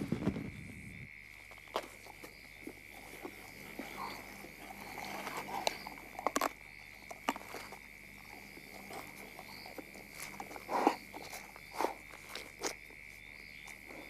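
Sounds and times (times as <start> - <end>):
night insects chirring: 0.0 - 14.0
clicks crunches and rustles: 1.3 - 14.0.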